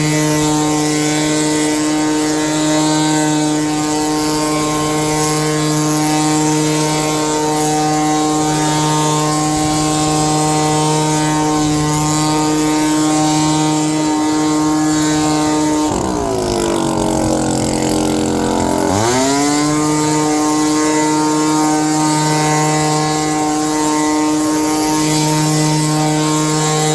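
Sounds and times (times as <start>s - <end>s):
gas leaf blower running: 0.0s - 26.9s.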